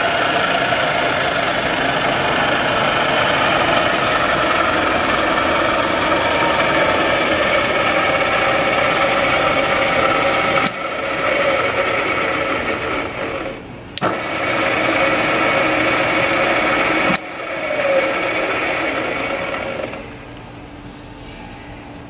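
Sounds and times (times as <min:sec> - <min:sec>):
milling machine spindle whine: 0:00.0 - 0:20.2.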